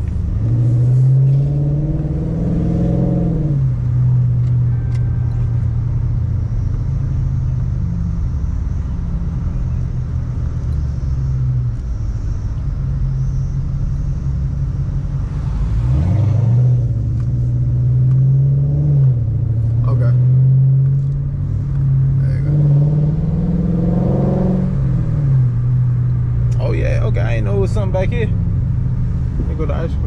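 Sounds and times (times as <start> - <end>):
car engine and exhaust from inside: 0.0 - 30.0.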